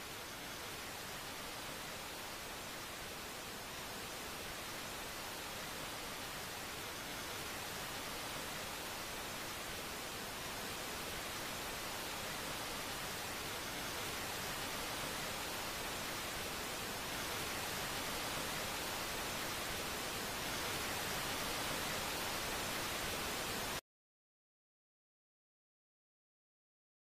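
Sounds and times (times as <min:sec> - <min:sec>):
static-like hiss: 0:00.0 - 0:23.8.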